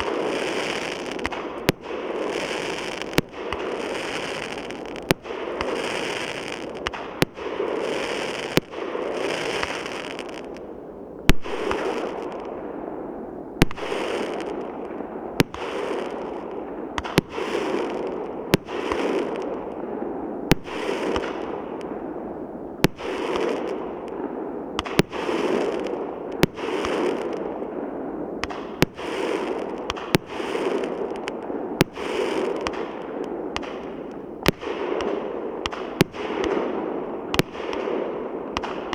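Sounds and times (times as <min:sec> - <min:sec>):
fireworks crackling: 0:00.0 - 0:12.9, 0:13.5 - 0:38.9
fireworks bangs: 0:00.0 - 0:38.9.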